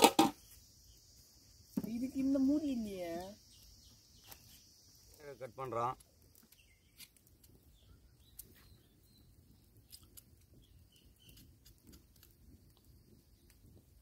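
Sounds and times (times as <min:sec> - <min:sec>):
faint bird chirps: 0:00.3 - 0:11.7.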